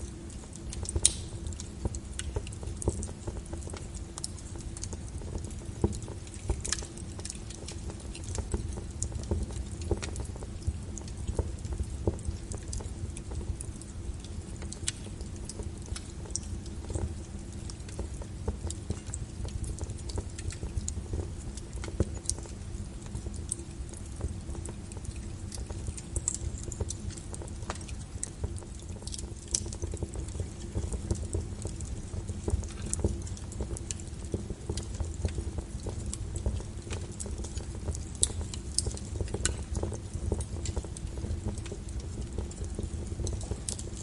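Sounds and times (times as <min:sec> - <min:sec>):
faint steady hum: 0:00.0 - 0:44.0
logs crackling and popping: 0:00.0 - 0:44.0
low rumble of fire: 0:00.0 - 0:44.0.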